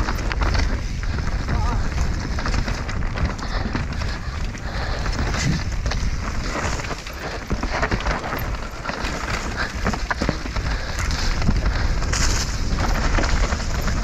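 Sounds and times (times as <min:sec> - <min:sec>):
bike knocks and rattles: 0:00.0 - 0:14.0
bike tyres rolling over dirt: 0:00.0 - 0:14.0
wind buffeting microphone: 0:00.0 - 0:14.0.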